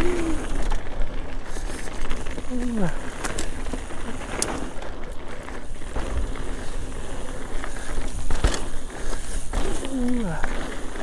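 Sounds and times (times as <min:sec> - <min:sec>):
bike clicks and knocks over bumps: 0:00.0 - 0:11.0
tyre noise on dirt: 0:00.0 - 0:11.0.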